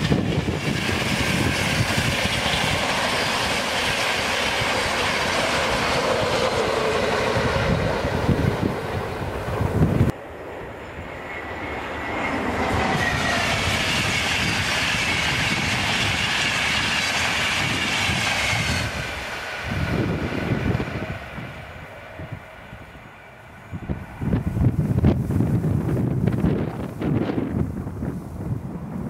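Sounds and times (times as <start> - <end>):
wind buffeting microphone: 0.0 - 11.2, 12.3 - 29.0
train passing at speed: 0.0 - 29.0.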